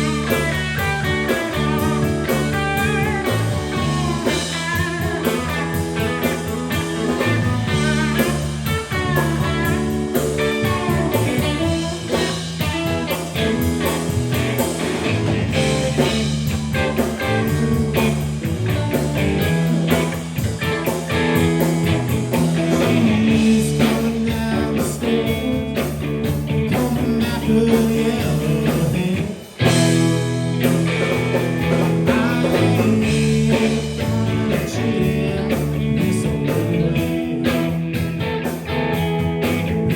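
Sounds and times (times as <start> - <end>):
blues-rock band playing: 0.0 - 39.9
electric guitar: 0.0 - 39.9.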